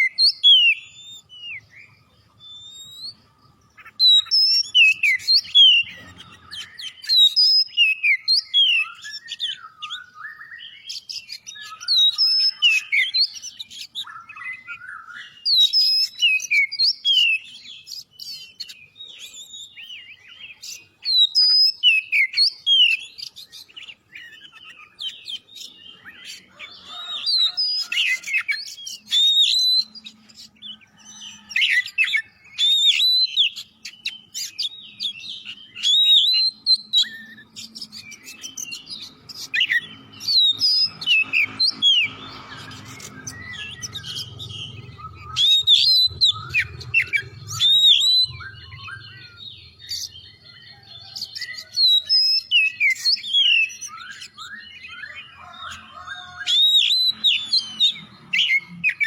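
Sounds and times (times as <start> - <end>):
bird singing whistled phrases: 0.0 - 3.2, 3.8 - 26.2, 26.8 - 30.2, 30.8 - 59.0.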